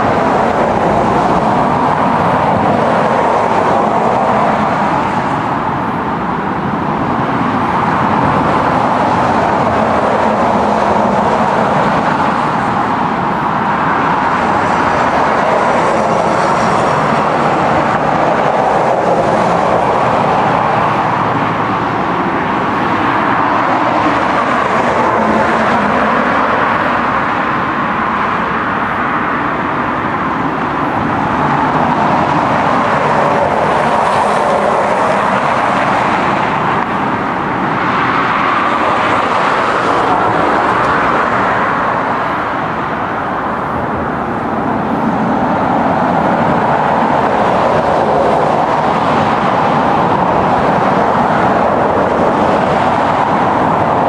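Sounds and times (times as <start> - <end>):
moving vehicle rolling noise: 0.0 - 54.0.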